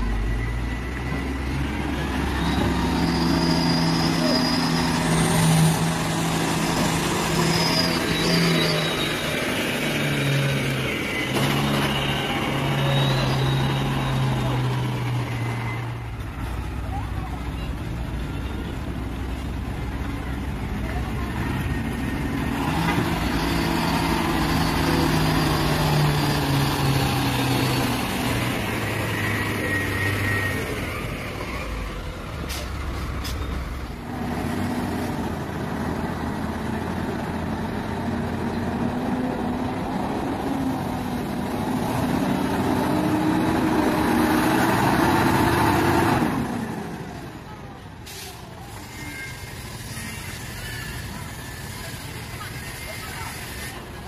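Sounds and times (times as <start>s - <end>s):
diesel truck engines labouring: 0.0s - 54.0s.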